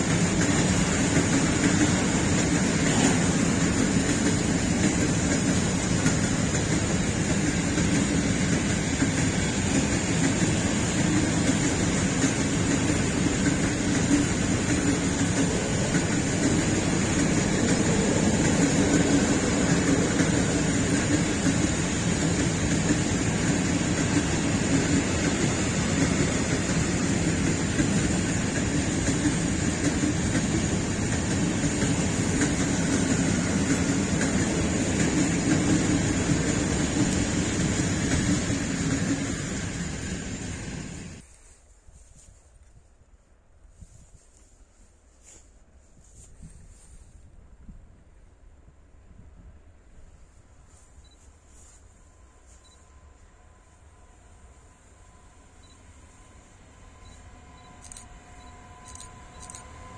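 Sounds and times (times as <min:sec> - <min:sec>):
freight train wheels rolling on rails: 0:00.0 - 0:42.5, 0:49.4 - 0:59.9.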